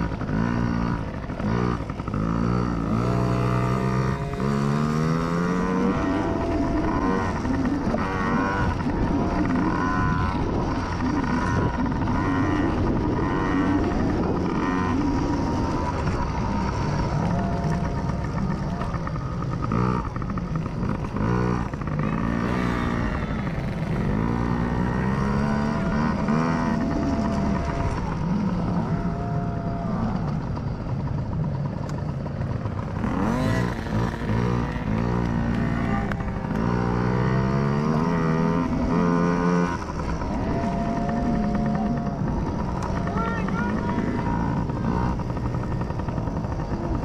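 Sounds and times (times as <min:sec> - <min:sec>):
small dirt bike engines revving: 0:00.0 - 0:47.0.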